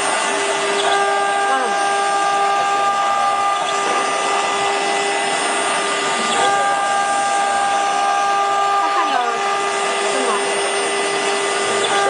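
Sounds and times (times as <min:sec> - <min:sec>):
bit grinding stone: 0:00.0 - 0:12.0
engraver spindle whine: 0:00.0 - 0:12.0.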